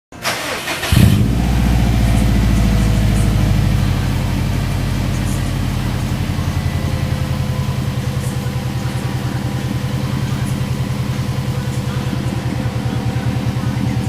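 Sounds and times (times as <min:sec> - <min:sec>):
car engine idling: 0:00.1 - 0:14.0.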